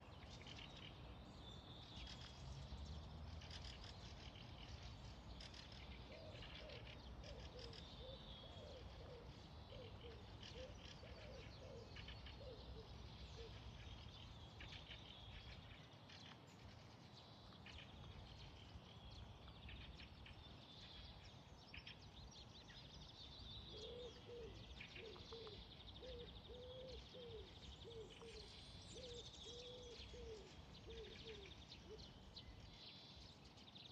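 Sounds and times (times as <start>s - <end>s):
birds chirping and singing: 0.0s - 33.9s.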